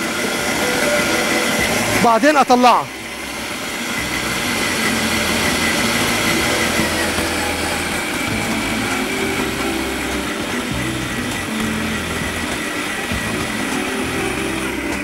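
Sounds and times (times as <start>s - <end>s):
high motor whine: 0.0s - 15.0s
stand mixer kneading dough: 0.0s - 15.0s.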